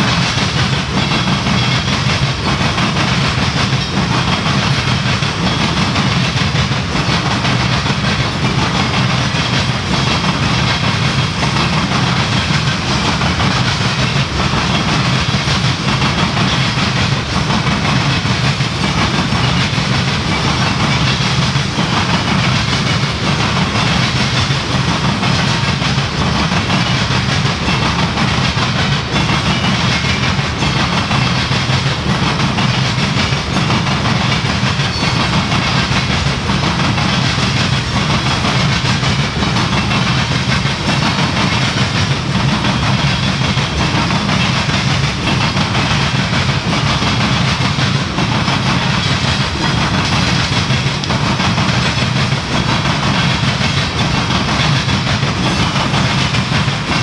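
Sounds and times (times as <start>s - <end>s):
faint rail clicks: 0.0s - 57.0s
train wheels rolling on rails: 0.0s - 57.0s.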